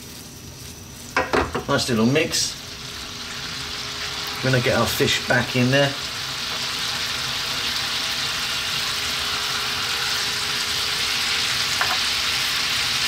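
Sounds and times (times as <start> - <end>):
sauce sizzling in frying pan: 0.0 - 13.0.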